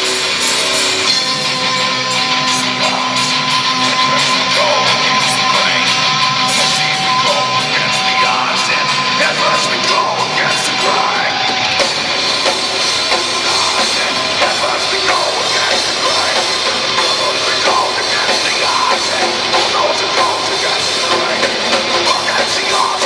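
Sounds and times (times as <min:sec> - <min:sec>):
heavy metal band playing live: 0:00.0 - 0:23.0.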